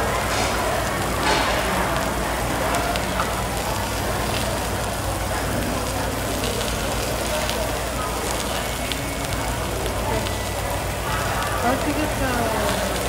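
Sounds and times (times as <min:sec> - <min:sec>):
meat sizzling on a grill plate: 0:00.0 - 0:13.0.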